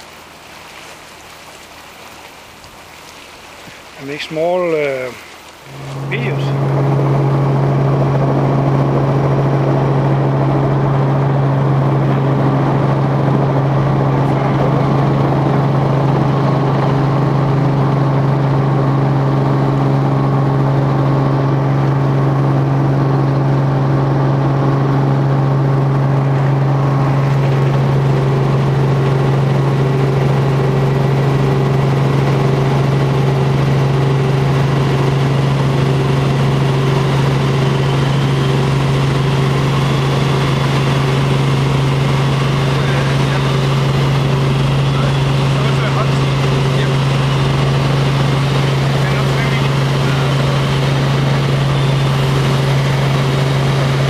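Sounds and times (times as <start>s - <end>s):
helicopter engine and rotors droning: 5.7s - 54.0s.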